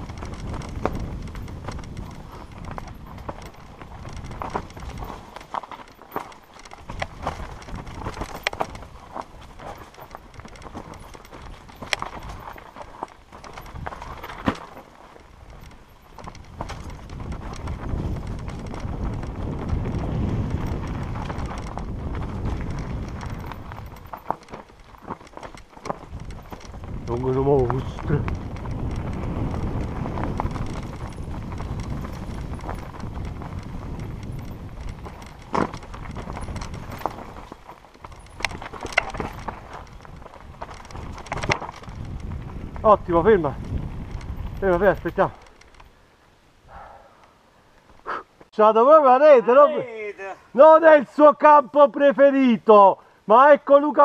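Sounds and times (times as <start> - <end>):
bike rattling and knocking: 0.0 - 46.0
bike tyres rolling on dirt: 0.0 - 54.0.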